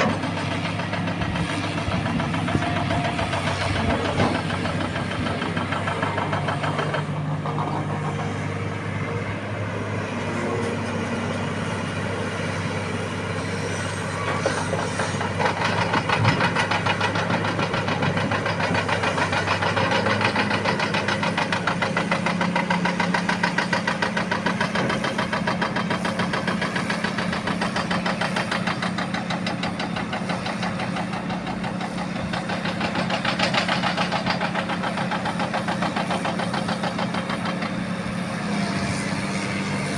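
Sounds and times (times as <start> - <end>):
constant clatter: 0.0 - 9.4, 10.0 - 39.9
excavator diesel engine running: 0.0 - 39.9.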